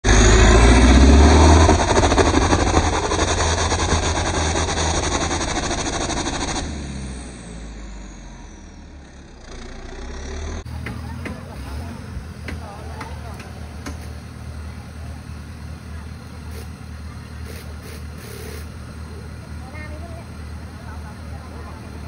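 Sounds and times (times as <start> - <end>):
diesel engine revving hard: 0.0 - 22.0.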